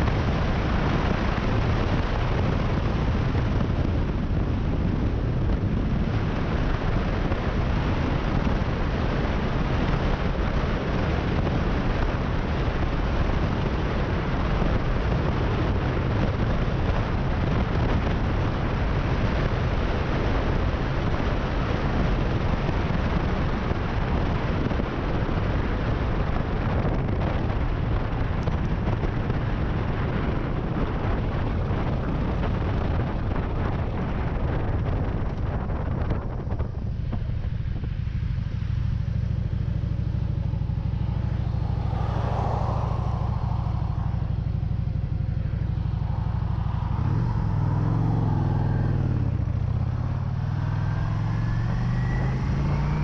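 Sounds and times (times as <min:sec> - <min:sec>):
motorcycle engine cruising: 0:00.0 - 0:53.0
wind buffeting microphone: 0:00.0 - 0:53.0.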